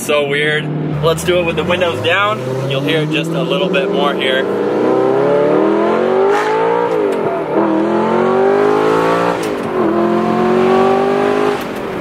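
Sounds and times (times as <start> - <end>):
car engine accelerating through exhaust: 0.2 - 12.0.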